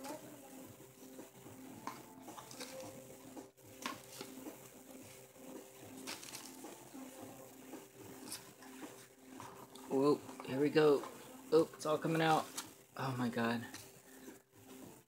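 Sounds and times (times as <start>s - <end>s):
faint steady background tones: 0.0s - 15.0s.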